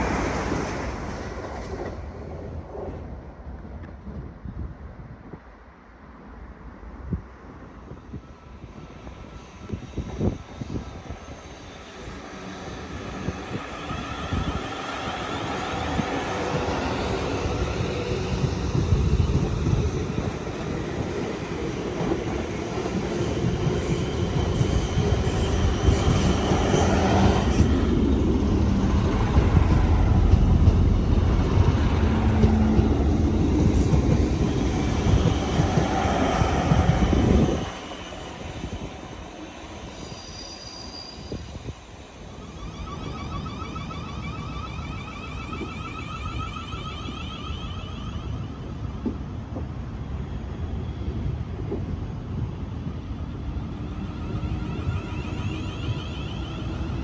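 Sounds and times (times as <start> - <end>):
train passing close by: 0.0 - 57.0.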